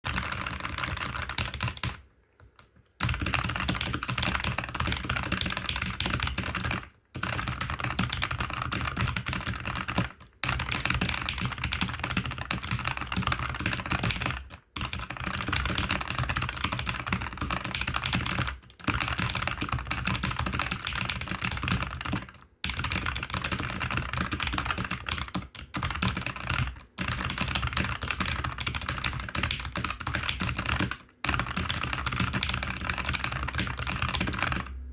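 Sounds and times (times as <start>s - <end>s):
fast typing on mechanical keyboard: 0.1s - 34.7s.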